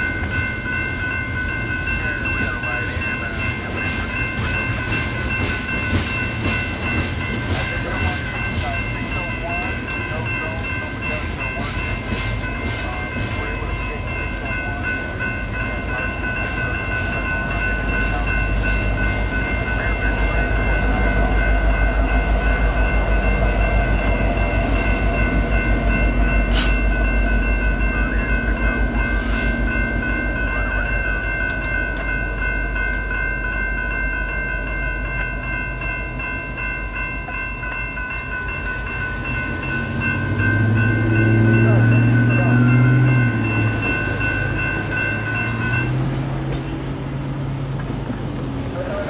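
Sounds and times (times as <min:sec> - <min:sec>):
electronic crossing bells ringing: 0:00.0 - 0:47.7
train wheels rumbling on rail: 0:00.0 - 0:49.0.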